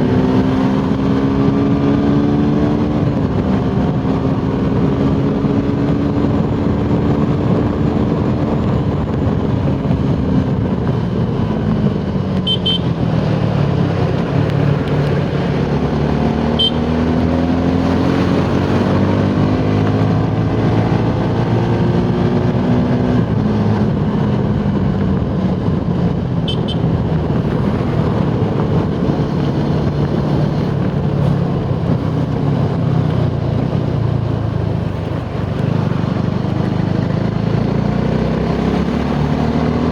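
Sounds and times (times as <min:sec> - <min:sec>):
heavy wind noise: 0:00.0 - 0:39.9
motorcycle engine running hard: 0:00.0 - 0:39.9.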